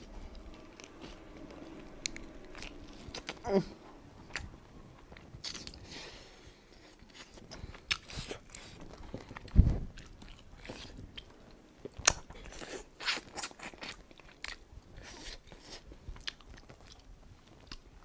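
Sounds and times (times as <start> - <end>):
meat torn and chewed: 0.3 - 3.4, 5.1 - 5.9, 7.0 - 18.0.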